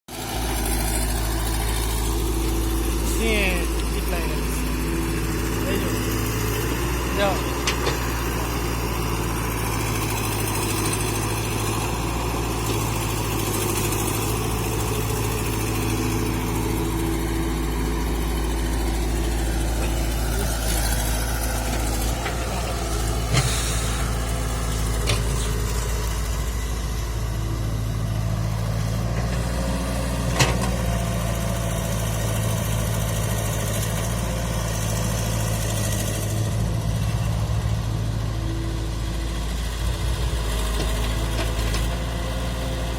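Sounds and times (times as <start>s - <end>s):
tractor diesel engine running: 0.1s - 42.9s.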